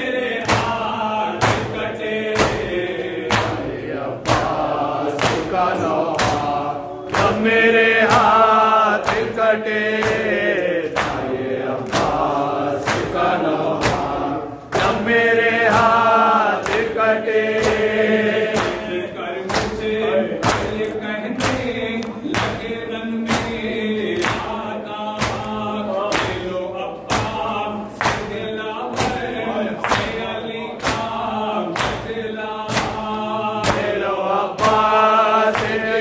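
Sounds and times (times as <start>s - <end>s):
men chanting in chorus: 0.0s - 36.0s
chest-beating slaps: 0.4s - 24.6s, 25.2s - 36.0s.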